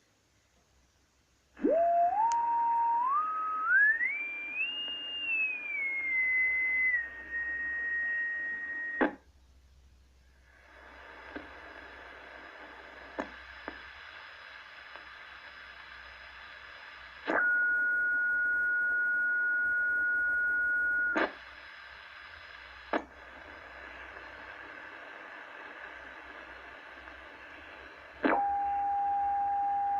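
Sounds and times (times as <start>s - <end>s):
steady electronic hiss: 0.0s - 28.3s
faint constant tones: 0.0s - 29.9s.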